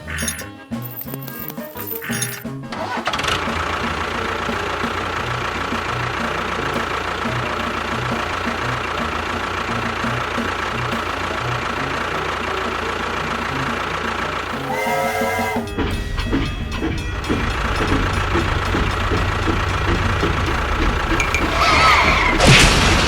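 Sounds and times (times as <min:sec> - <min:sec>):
engine idling with knocking: 0:02.1 - 0:23.0.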